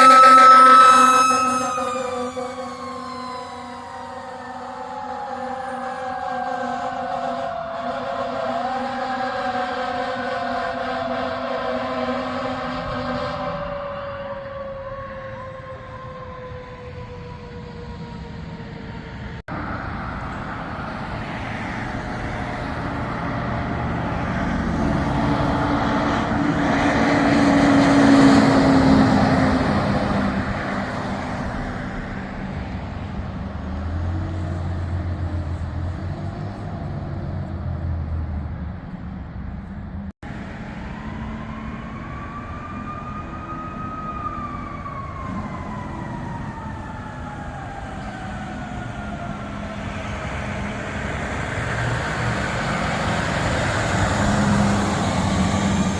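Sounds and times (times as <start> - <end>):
siren wailing: 0.0 - 19.4, 20.7 - 37.4, 40.3 - 55.9
siren winding down: 0.0 - 19.4, 21.2 - 37.6, 40.3 - 55.9
fire engine passing: 0.0 - 55.9.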